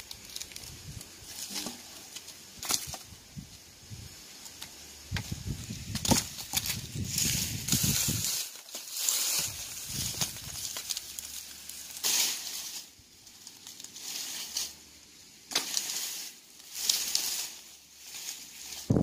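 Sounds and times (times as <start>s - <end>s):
branches rustling and crackling: 0.0s - 19.0s.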